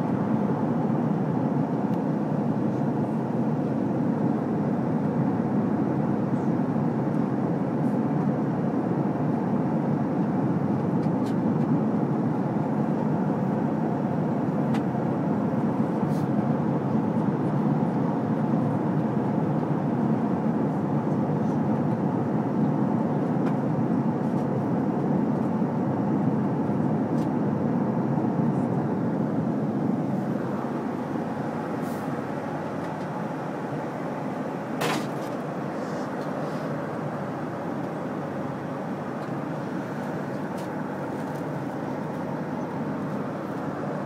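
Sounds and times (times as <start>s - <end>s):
airplane cabin engine noise: 0.0s - 44.0s.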